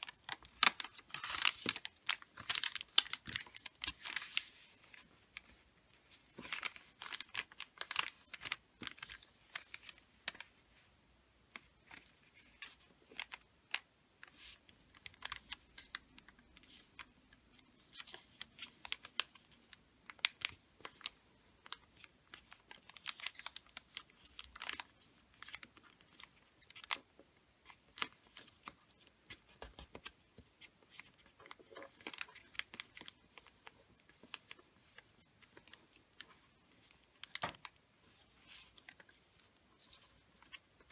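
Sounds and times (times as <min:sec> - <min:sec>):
wrapping paper rustling and crackling: 0:00.0 - 0:10.9, 0:11.5 - 0:40.9.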